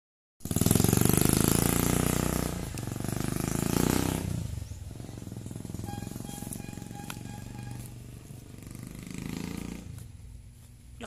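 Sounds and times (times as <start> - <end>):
small engine pulsing: 0.4 - 10.2.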